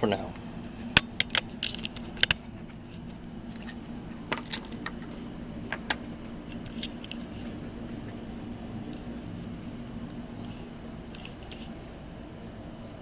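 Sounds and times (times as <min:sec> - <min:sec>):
small hard objects clicking: 0:00.0 - 0:12.0.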